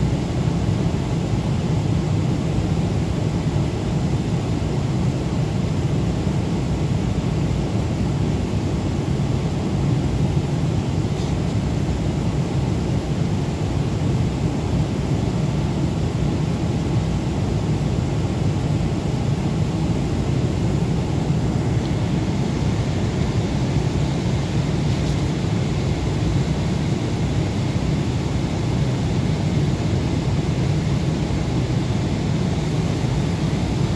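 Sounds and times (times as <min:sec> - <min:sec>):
airplane cabin noise: 0:00.0 - 0:33.9.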